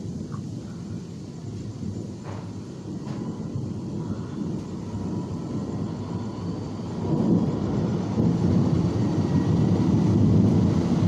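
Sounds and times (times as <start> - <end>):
rain: 0.0 - 11.0
thunder rumbling: 0.0 - 11.0.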